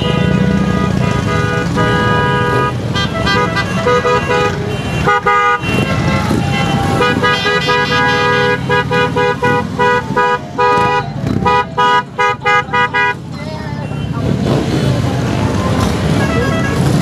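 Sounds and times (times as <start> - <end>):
motorcycle engines running: 0.0 - 17.0
motorcycle horns honking: 0.0 - 17.0.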